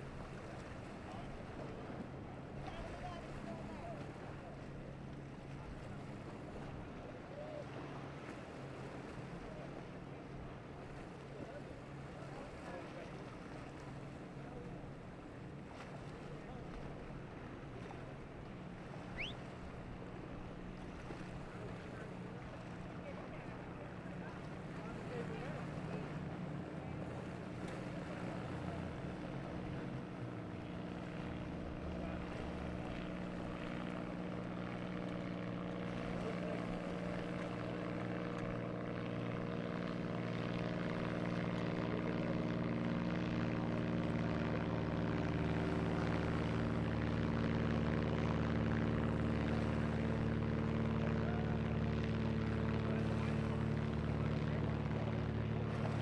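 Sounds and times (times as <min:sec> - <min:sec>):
boat engines droning: 0:00.0 - 0:56.0.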